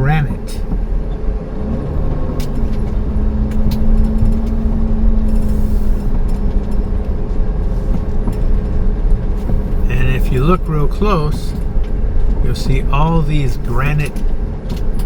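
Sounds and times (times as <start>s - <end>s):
van engine and road drone: 0.0s - 15.0s.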